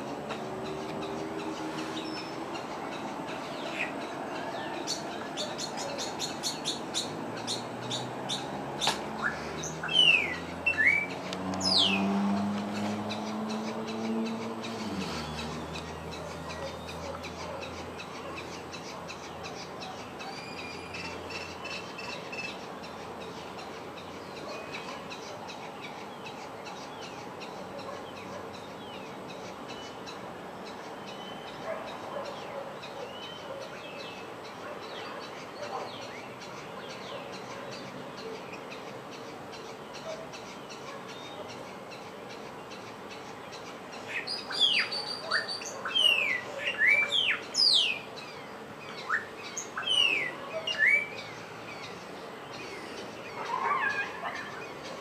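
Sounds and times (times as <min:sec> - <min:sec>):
steady hissing ambience: 0:00.0 - 0:55.0.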